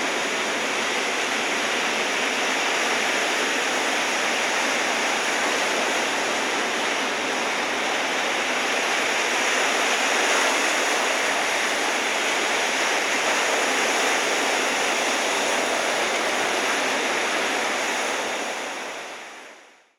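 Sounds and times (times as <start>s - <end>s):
ocean surf breaking: 0.0s - 19.6s.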